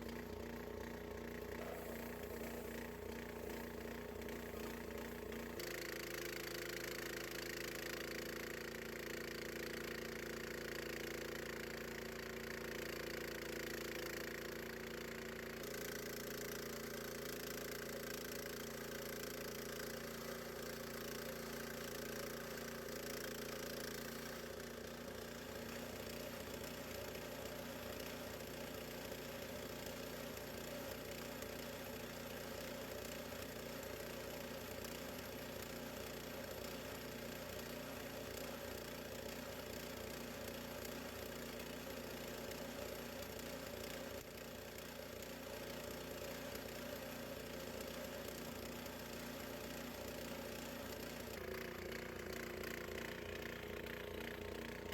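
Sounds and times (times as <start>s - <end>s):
sawmill engine running: 0.0s - 8.8s, 19.1s - 54.9s.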